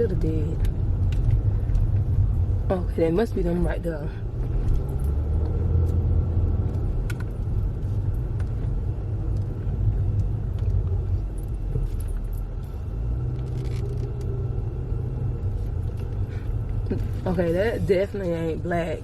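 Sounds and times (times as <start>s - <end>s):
car engine rumble from inside: 0.0s - 19.0s.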